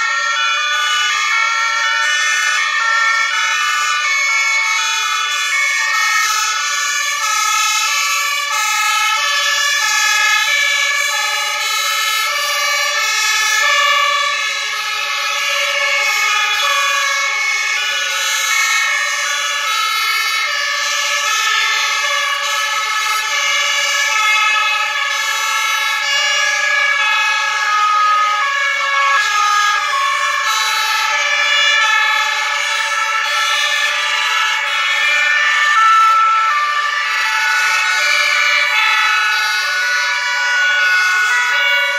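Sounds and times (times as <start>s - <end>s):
fire engine sirens: 0.0s - 41.9s.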